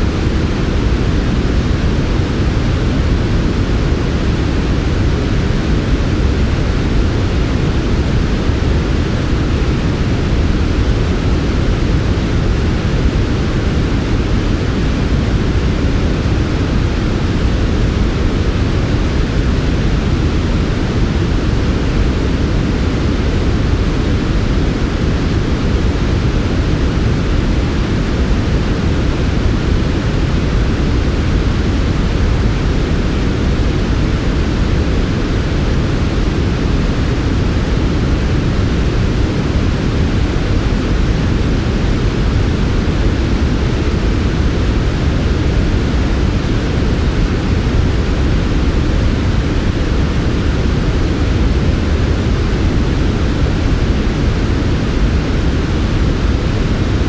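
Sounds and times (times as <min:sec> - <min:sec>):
dark steady hiss: 0:00.0 - 0:57.0.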